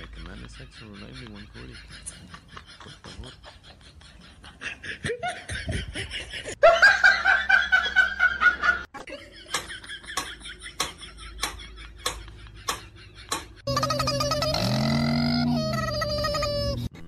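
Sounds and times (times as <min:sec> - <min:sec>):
person laughing: 0:00.0 - 0:17.0.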